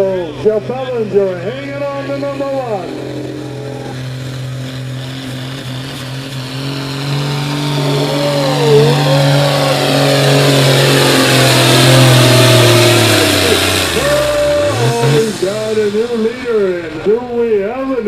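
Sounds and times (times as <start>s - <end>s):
tractor engine under heavy load: 0.0s - 18.0s.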